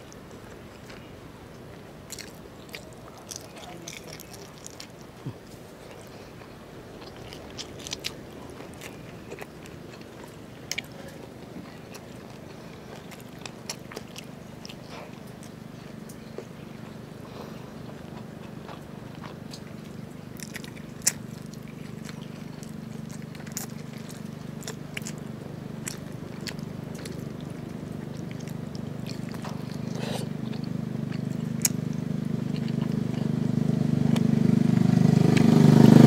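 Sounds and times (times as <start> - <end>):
small crunches: 0.0 - 33.3
chewing with wet mouth clicks: 0.0 - 33.4, 34.1 - 34.4
steady low hum: 0.0 - 36.0.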